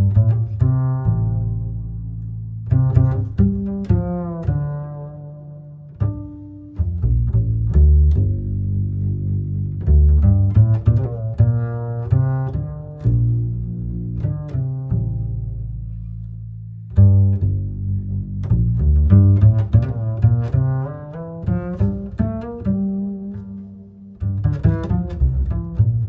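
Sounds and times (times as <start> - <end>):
plucked and bowed strings music: 0.0 - 26.0.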